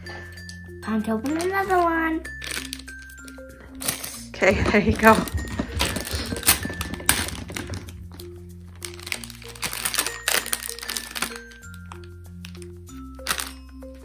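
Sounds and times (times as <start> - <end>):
background music with held notes: 0.0 - 14.0
plastic wrapper crinkling: 1.2 - 13.6.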